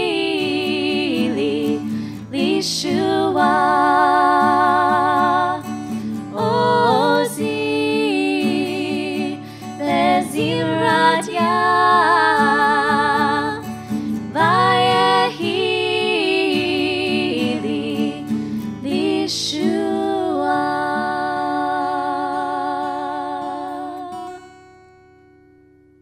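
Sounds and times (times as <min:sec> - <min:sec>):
woman singing with vibrato: 0:00.0 - 0:24.4
acoustic guitar: 0:00.0 - 0:26.0.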